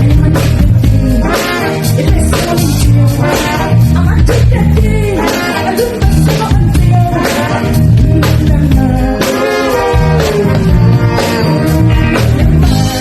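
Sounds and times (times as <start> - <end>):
live band playing loud music: 0.0 - 13.0
person singing: 0.0 - 13.0.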